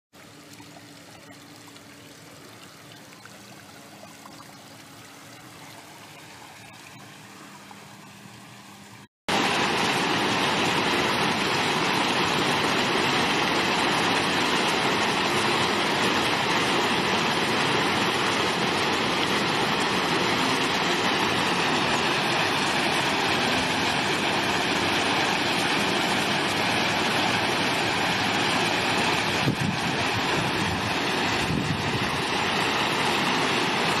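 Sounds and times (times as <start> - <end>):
fountain jets splashing: 0.2 - 34.0
water trickling over fountain: 0.2 - 34.0.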